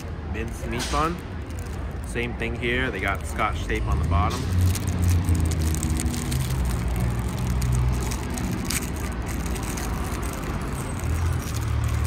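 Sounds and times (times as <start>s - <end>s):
street traffic: 0.0s - 12.0s
vehicle engine rumble: 0.0s - 12.0s
plastic bag crackling: 0.6s - 12.0s.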